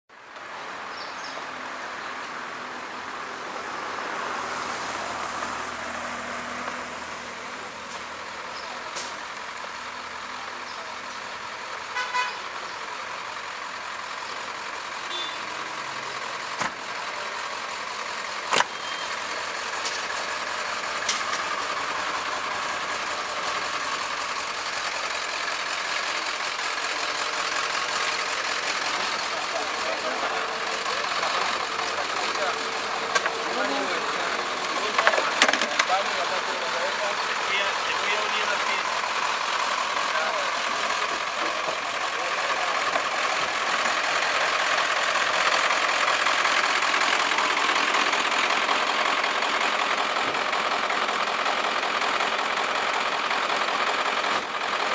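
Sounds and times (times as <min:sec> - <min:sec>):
outdoor street noise: 0:00.1 - 0:54.9.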